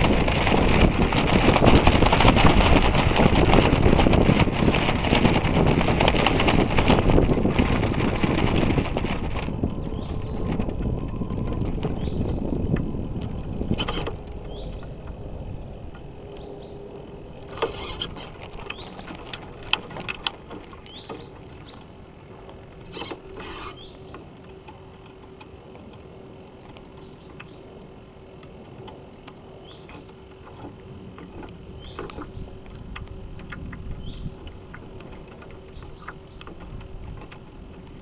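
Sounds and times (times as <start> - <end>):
faint steady hum: 0.0 - 38.0
water and wind rushing: 0.0 - 38.0.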